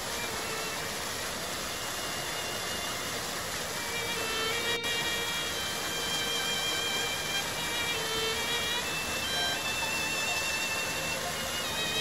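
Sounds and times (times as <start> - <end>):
even hiss: 0.0 - 12.0
music with long held notes: 0.0 - 12.0.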